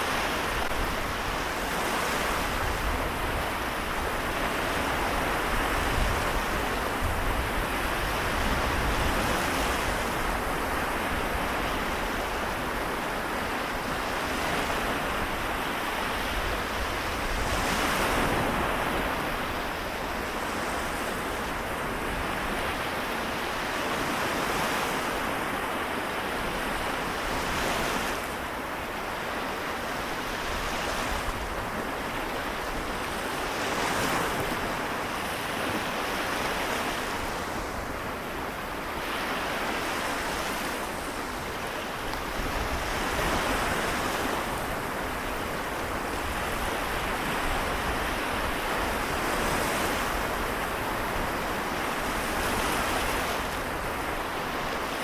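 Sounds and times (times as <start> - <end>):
small waves washing ashore: 0.0 - 55.0
wind rumble on microphone: 0.0 - 55.0.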